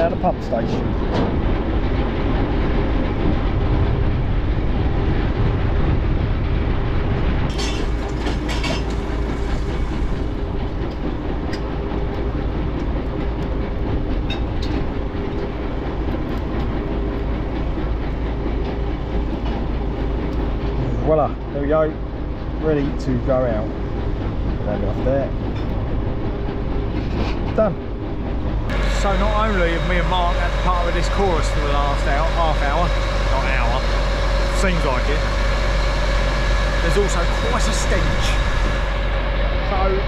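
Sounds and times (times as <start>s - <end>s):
pump mechanical drone: 0.0s - 40.0s.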